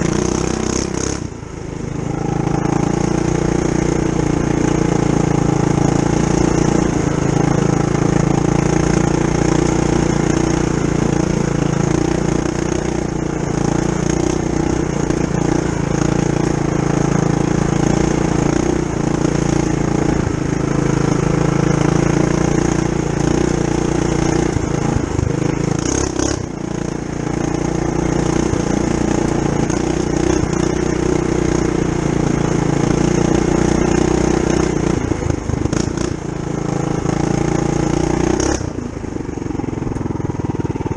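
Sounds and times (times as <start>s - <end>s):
mini bike engine running: 0.0s - 40.9s.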